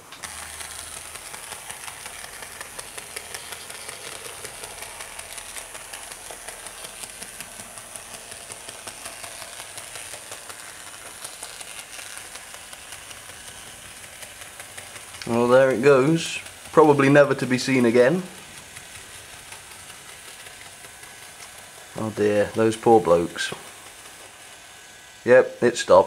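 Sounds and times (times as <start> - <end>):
small motor whirr with fine clicking: 0.0 - 26.0.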